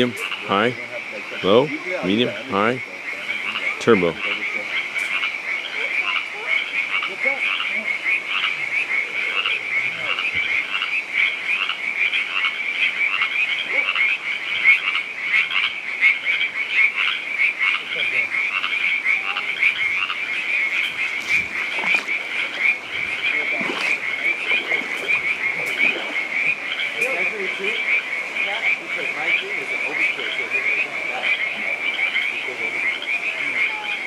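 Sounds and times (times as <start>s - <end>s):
frogs trilling: 0.0s - 34.0s.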